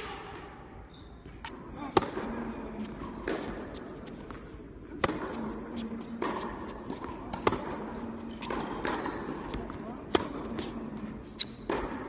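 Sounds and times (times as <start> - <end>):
tennis ball bouncing on court: 1.2 - 12.0
tennis ball hit by racket: 1.4 - 10.8, 11.5 - 12.0.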